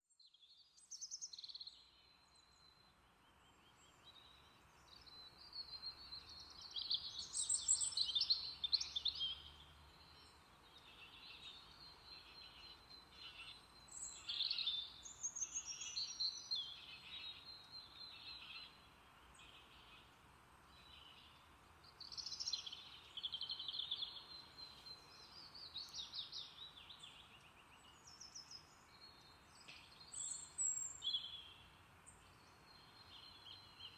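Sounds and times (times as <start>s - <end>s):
songbirds singing and chirping: 0.0s - 33.9s
faint background hiss: 0.4s - 33.9s.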